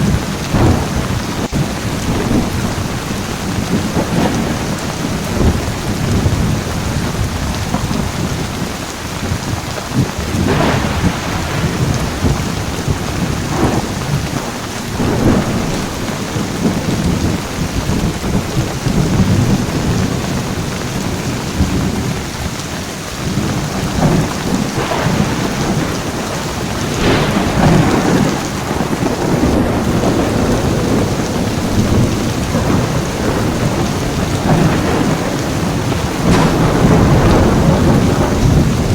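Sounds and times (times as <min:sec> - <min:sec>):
sharp thunder cracks: 0:00.0 - 0:22.5, 0:23.2 - 0:38.9
heavy rain falling: 0:00.0 - 0:38.9
thunder rumbling: 0:00.0 - 0:38.9.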